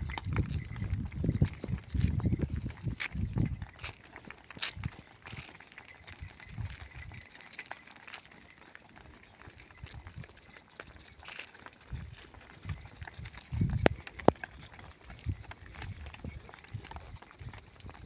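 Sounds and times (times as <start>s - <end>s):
hoof thuds and clicks: 0.0s - 18.0s.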